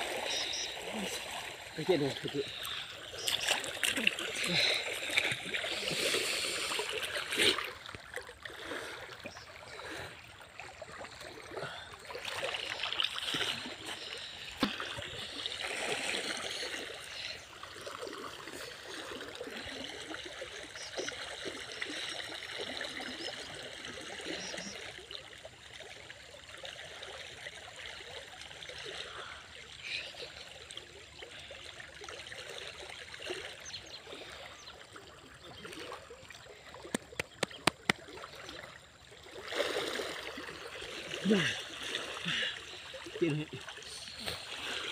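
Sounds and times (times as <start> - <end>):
person splashing through stream: 0.0 - 24.8, 30.6 - 44.9
running water: 0.0 - 44.9.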